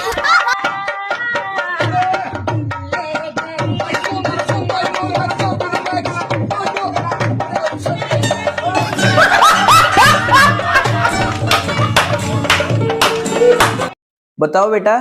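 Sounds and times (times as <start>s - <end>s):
tabla rhythm: 0.0s - 14.0s.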